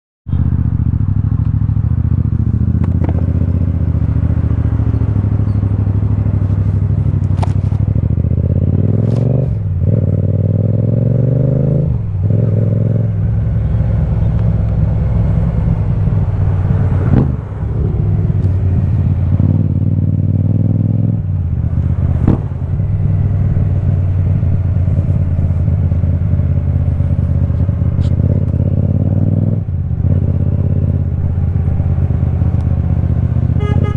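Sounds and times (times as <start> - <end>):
motorcycle engine revving: 0.3 - 33.9.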